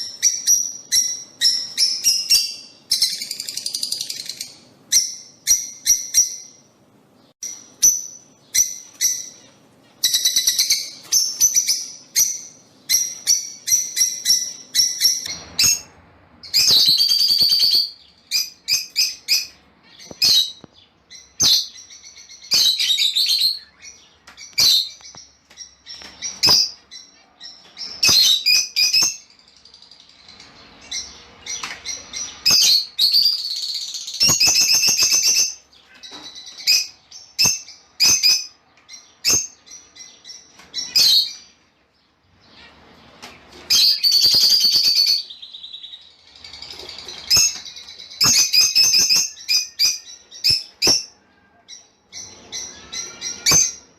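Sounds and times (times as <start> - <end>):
lovebirds chirping and squawking: 0.0 - 53.9.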